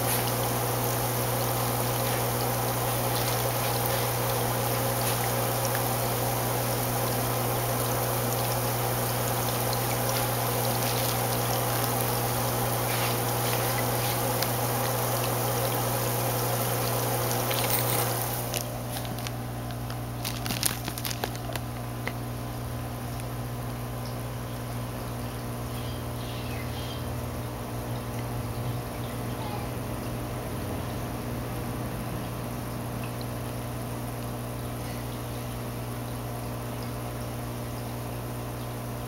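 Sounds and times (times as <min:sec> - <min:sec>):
aquarium water rushing: 0:00.0 - 0:39.0
low pump hum: 0:00.0 - 0:39.0.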